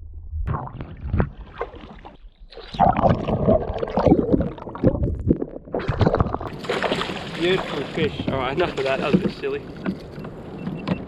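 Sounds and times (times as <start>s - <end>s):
water splashing against kayak hull: 0.5s - 11.0s.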